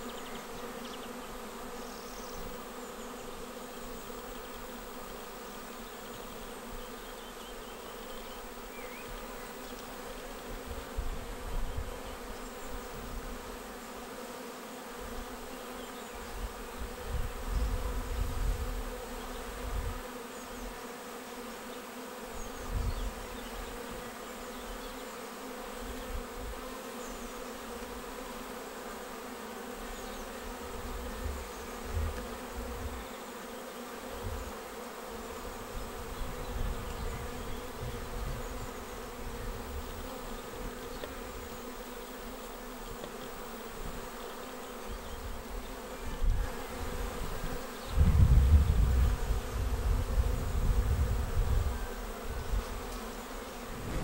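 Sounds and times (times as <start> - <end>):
bee swarm buzzing: 0.0 - 54.0.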